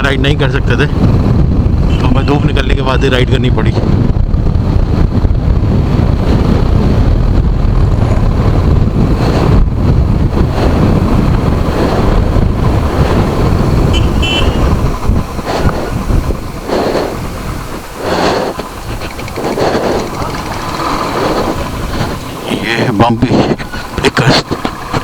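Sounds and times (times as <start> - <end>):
road and engine noise: 0.0 - 25.0
wind rushing over microphone: 0.0 - 25.0.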